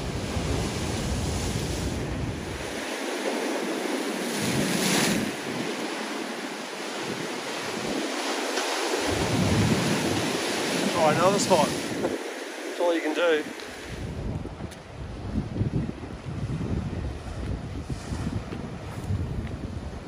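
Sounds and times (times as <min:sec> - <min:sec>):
waves washing over rocks: 0:00.0 - 0:20.0
wind buffeting microphone: 0:00.0 - 0:20.0.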